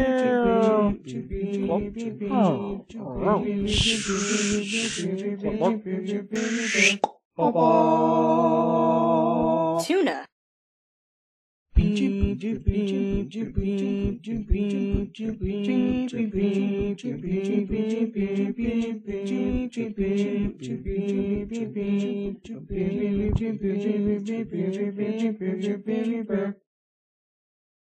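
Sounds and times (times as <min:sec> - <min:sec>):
person singing wordless tune: 0:00.0 - 0:10.2, 0:11.8 - 0:26.6.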